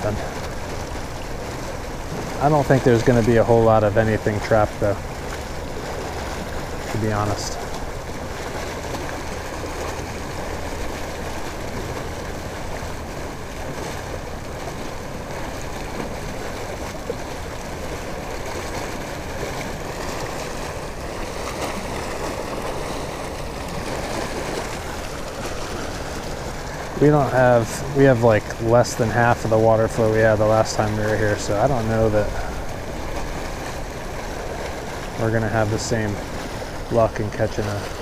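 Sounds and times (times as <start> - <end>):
water rushing from pipe: 0.0 - 38.0.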